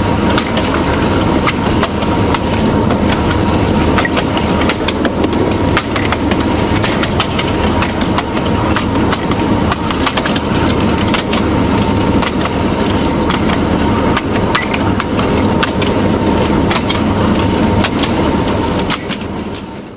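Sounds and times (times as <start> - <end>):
diesel locomotive engine running: 0.0 - 19.9
wheels clacking over rail joints: 0.0 - 19.9.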